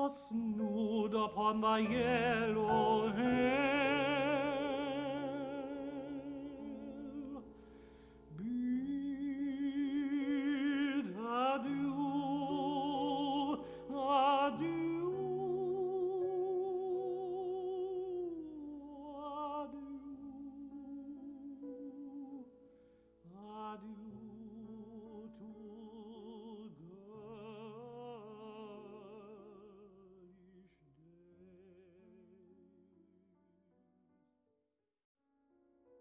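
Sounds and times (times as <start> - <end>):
person singing with vibrato: 0.0 - 22.6, 23.2 - 32.3
soft sustained accompaniment: 0.0 - 30.6.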